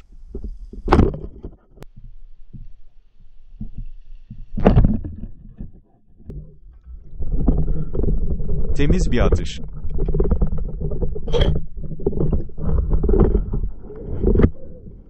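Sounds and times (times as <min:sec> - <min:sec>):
low underwater rumble: 0:00.0 - 0:15.0.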